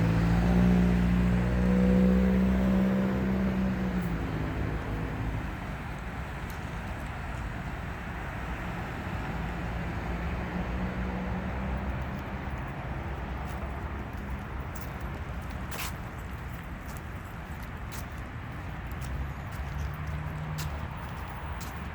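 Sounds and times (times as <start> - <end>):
low engine hum: 0.0 - 21.9
traffic noise: 0.0 - 21.9.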